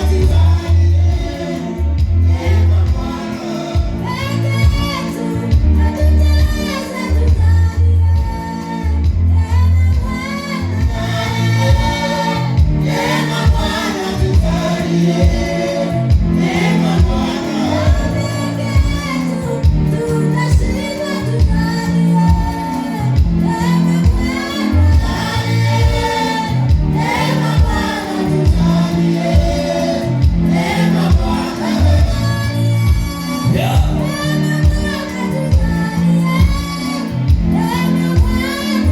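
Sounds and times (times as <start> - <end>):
choir singing gospel music: 0.0 - 38.9
steady bass beat: 0.0 - 38.9.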